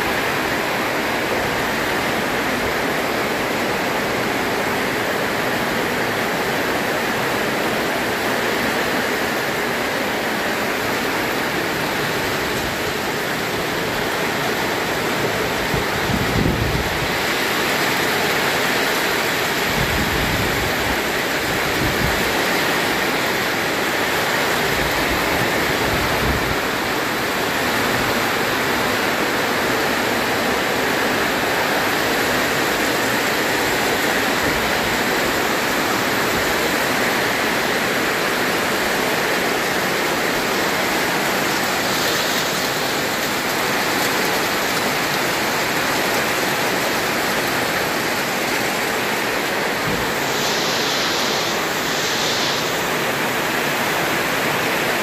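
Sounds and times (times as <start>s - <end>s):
rain on a metal roof: 0.0s - 55.0s.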